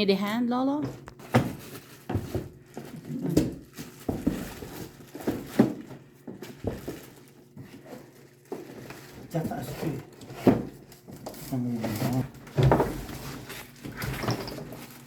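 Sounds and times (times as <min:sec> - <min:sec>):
knocks and clunks of handling: 0:00.8 - 0:15.0.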